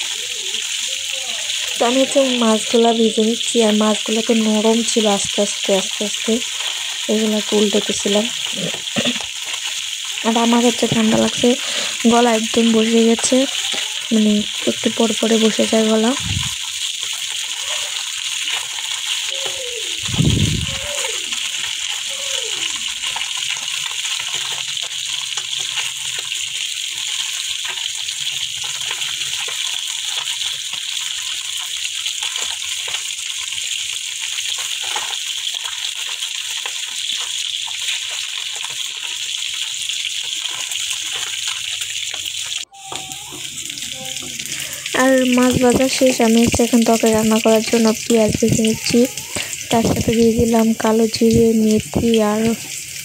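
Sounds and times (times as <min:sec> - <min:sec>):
fish sizzling in oil: 0:00.0 - 0:53.0.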